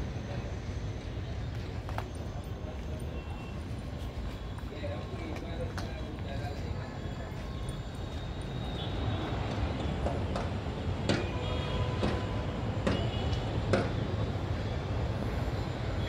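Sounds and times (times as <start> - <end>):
traffic rumble: 0.0 - 16.0
wind: 0.0 - 16.0.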